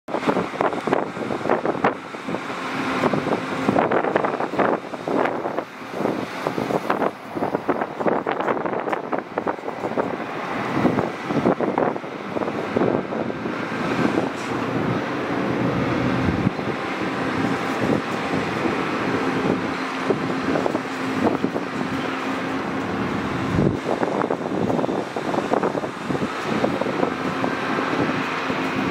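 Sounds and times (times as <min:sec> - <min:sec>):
excavator diesel engine under load: 0:00.1 - 0:28.9
wind buffeting microphone: 0:00.1 - 0:28.9.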